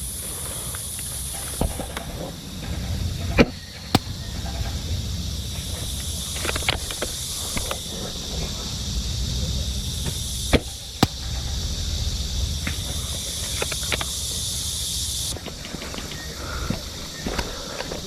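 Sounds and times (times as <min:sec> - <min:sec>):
sharp cracks: 0:00.0 - 0:18.0
steady high hiss: 0:00.0 - 0:18.0.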